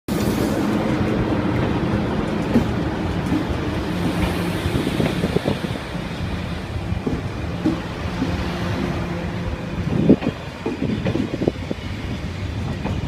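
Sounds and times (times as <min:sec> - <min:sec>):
train rumble and hum: 0:00.1 - 0:13.0.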